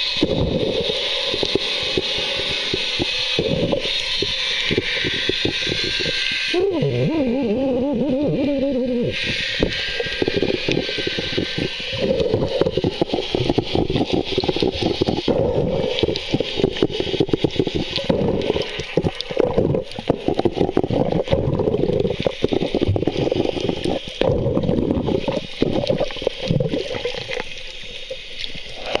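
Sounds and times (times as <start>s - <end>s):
fish feeding knocks and clicks: 0.0s - 6.5s, 9.1s - 27.5s
water gurgling underwater: 0.0s - 29.0s.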